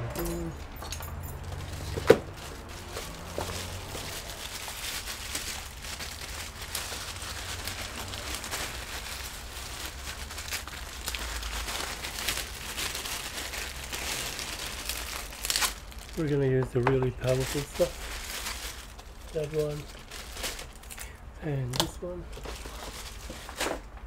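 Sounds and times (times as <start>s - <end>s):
tape crinkling and rustling: 0.2s - 24.0s.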